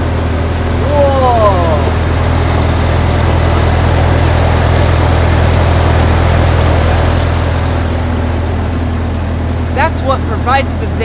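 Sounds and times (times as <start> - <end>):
ice resurfacer engine droning: 0.0 - 11.0.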